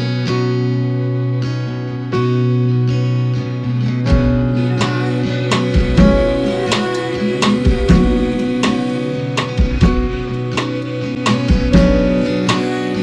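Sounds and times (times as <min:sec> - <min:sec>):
acoustic guitar strumming: 0:00.0 - 0:13.0
small band playing live: 0:02.3 - 0:13.0.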